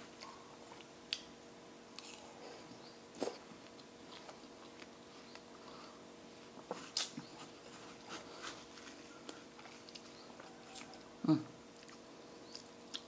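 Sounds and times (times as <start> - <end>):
soft chewing: 0.0 - 1.3, 1.9 - 13.0.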